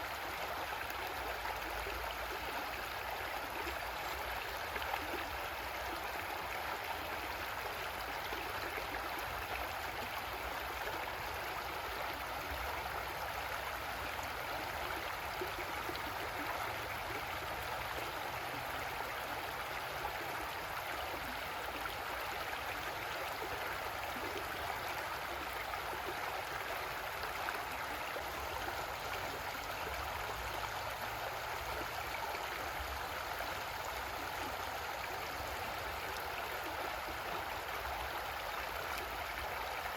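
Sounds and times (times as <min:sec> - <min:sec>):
creek water burbling over rocks: 0:00.0 - 0:39.9.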